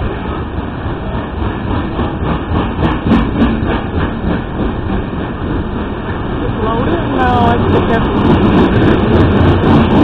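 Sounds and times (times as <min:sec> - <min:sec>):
train wheels rumbling on rails: 0:00.0 - 0:10.0
wheels clacking over rail joint: 0:00.0 - 0:10.0.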